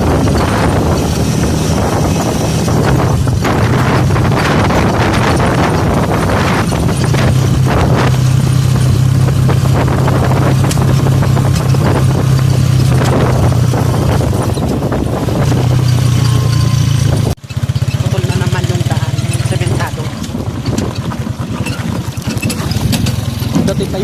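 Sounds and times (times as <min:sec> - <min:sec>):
road noise: 0:00.0 - 0:24.0
vehicle engine humming: 0:00.0 - 0:24.0
wind noise: 0:00.0 - 0:24.0.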